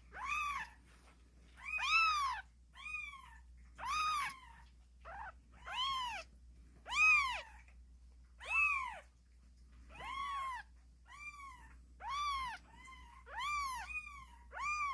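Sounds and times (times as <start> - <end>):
kittens meowing: 0.0 - 0.8, 1.6 - 7.6, 8.4 - 9.1, 9.9 - 14.9.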